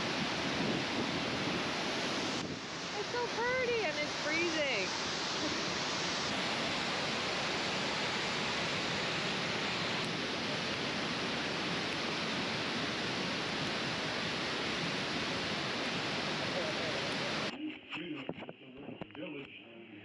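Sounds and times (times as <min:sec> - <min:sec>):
water rushing: 0:00.0 - 0:17.5.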